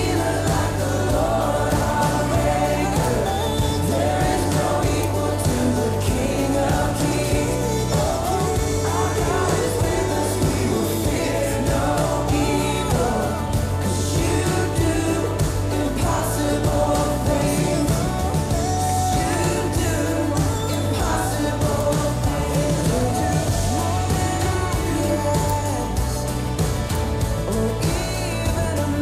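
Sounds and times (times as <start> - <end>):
worship song with band: 0.0 - 29.0.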